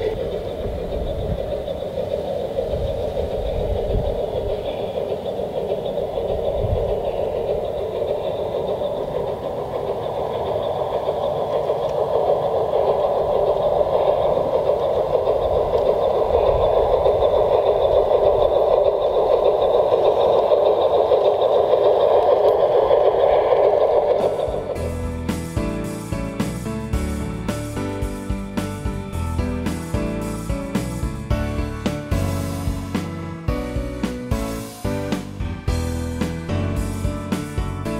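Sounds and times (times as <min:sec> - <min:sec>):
model trains running on rails: 0:00.0 - 0:37.9.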